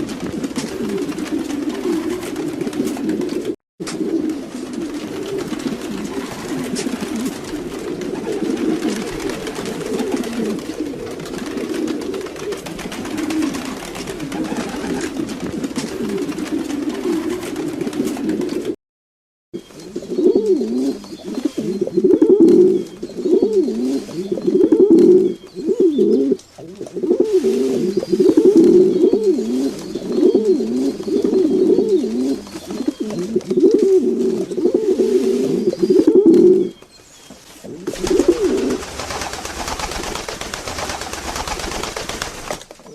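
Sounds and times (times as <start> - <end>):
pigeons cooing: 0.0 - 18.8, 19.7 - 42.9.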